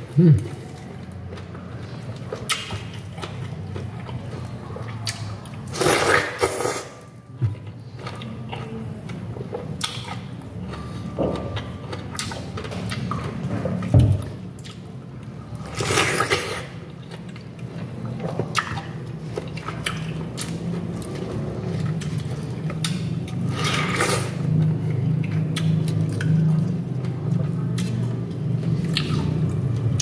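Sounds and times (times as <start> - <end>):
wet chewing: 0.4 - 6.8, 7.5 - 15.0, 15.7 - 30.0.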